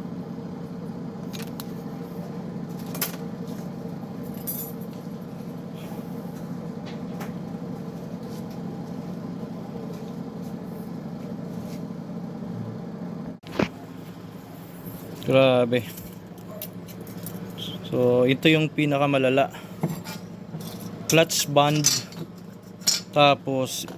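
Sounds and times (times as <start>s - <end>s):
steady background hum: 0.0s - 23.9s.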